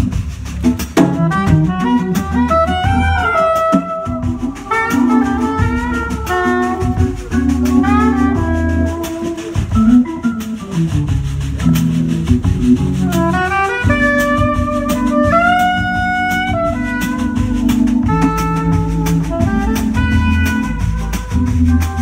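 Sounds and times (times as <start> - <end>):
organ bass tones: 0.0 - 22.0
saxophone melody: 0.0 - 22.0
steady drum beat: 0.0 - 22.0.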